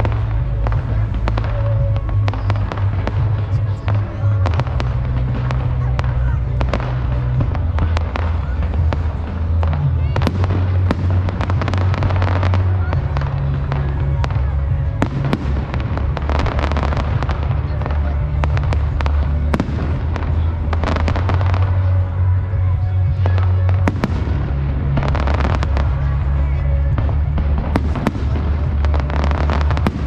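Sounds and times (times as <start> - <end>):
fireworks bangs and crackles: 0.0 - 30.0
music with heavy bass: 0.0 - 30.0.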